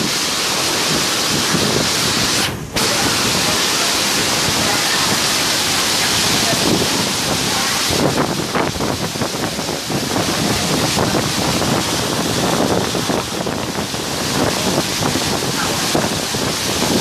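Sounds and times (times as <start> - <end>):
heavy rain: 0.0 - 17.0
wind buffeting microphone: 0.0 - 17.0.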